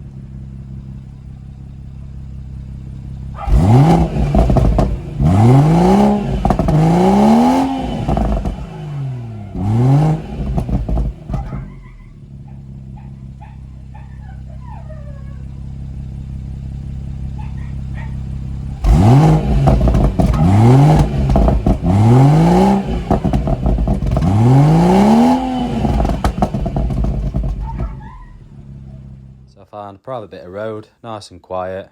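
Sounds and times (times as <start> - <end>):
car engine revving: 0.0 - 29.5
car engine idling: 0.0 - 29.6.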